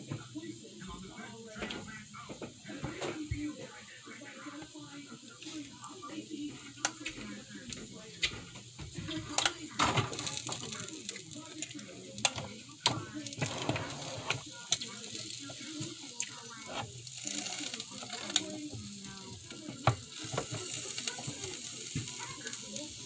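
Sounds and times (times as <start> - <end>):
batter sizzling in waffle maker: 0.0 - 23.0.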